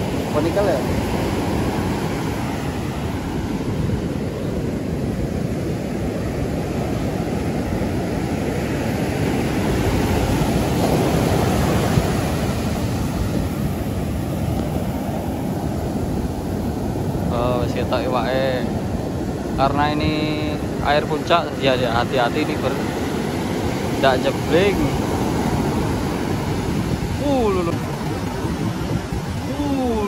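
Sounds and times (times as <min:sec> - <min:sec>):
ocean surf breaking: 0:00.0 - 0:30.0
wind buffeting microphone: 0:00.0 - 0:30.0.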